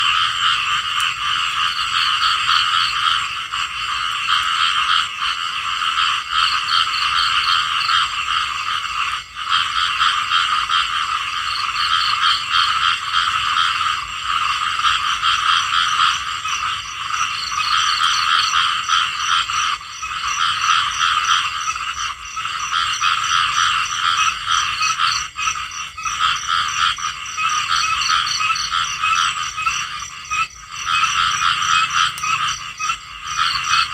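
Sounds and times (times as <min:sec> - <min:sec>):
frog chorus croaking: 0:00.0 - 0:33.9
high-pitched pulsed frog call: 0:00.0 - 0:33.9.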